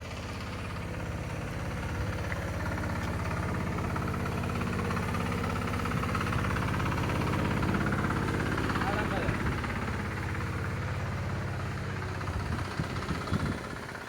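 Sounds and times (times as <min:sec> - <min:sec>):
engine running with even pulsing: 0:00.0 - 0:14.0.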